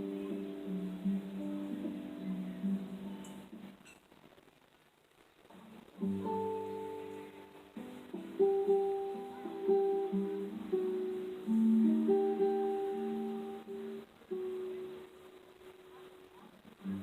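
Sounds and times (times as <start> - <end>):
plucked guitar melody: 0.0 - 3.8, 5.6 - 17.0.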